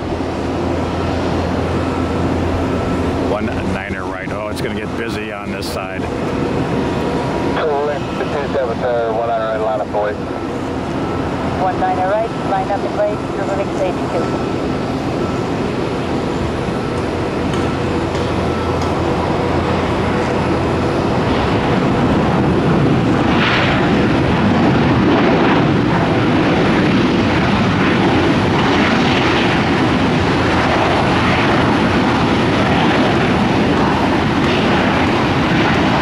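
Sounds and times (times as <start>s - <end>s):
jet engines at takeoff: 0.0s - 36.0s.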